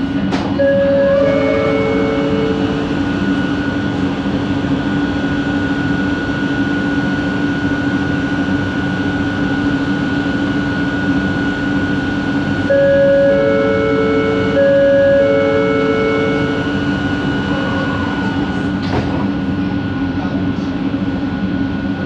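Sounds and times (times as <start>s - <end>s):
train rumble with motor whine: 0.0s - 22.0s.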